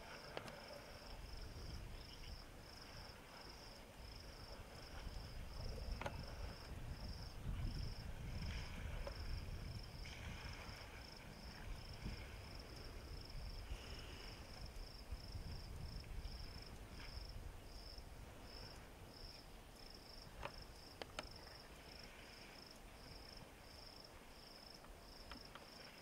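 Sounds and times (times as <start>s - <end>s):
insect chirping: 0.0s - 26.0s.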